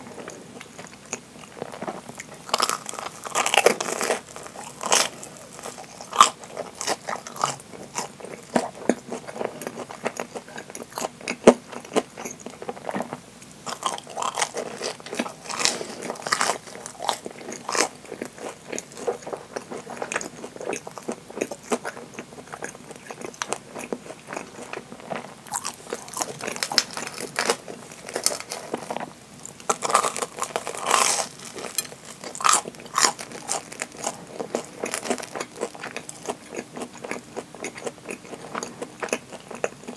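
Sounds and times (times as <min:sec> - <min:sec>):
crunchy biting and chewing: 0:00.1 - 0:39.9.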